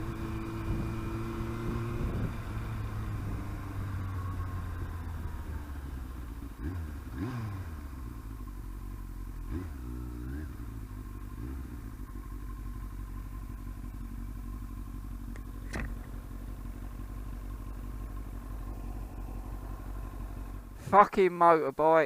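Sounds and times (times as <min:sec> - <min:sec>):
motorcycle engine running: 0:00.0 - 0:21.2
road and wind noise: 0:00.0 - 0:22.0.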